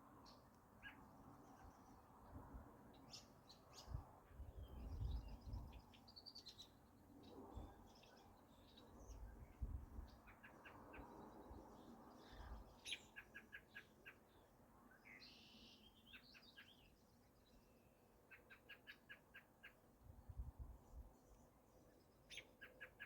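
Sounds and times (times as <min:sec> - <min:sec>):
soft outdoor hiss: 0:00.0 - 0:23.0.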